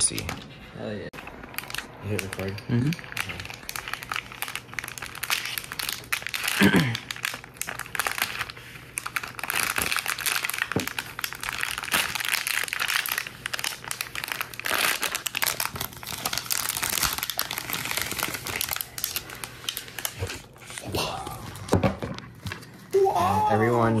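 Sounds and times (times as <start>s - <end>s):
plastic wrapping crinkling: 1.2s - 20.9s.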